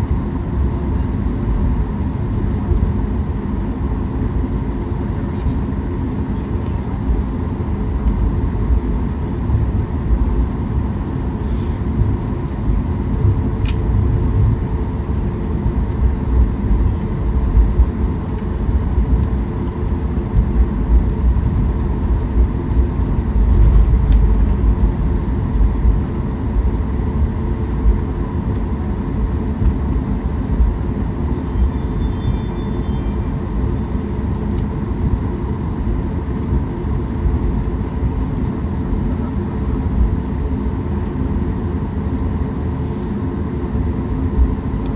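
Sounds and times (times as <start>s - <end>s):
cabin air system hum: 0.0s - 44.9s
low rumble of aircraft taxiing: 0.0s - 44.9s.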